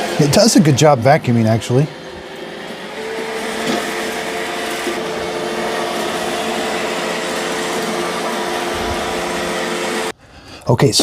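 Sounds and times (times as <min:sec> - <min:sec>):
robot vacuum humming: 0:00.0 - 0:10.2.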